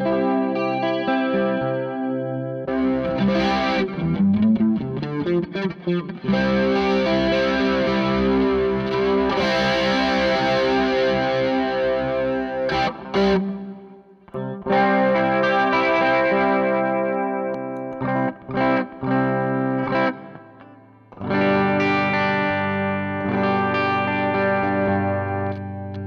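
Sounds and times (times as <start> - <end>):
distorted electric guitar with chorus: 0.0 - 26.0.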